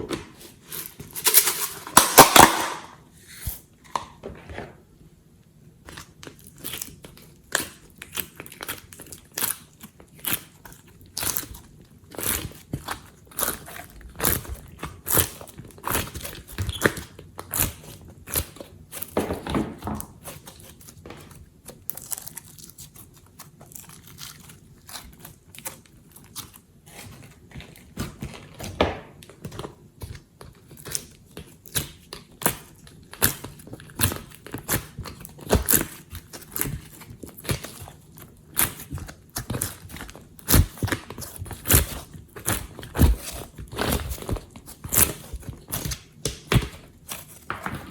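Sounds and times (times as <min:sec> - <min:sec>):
slime squishing with wet pops: 0:05.8 - 0:47.9.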